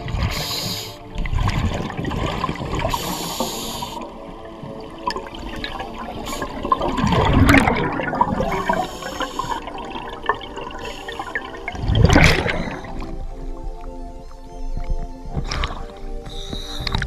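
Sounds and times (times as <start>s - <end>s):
bubbles gurgling underwater: 0.0s - 14.0s.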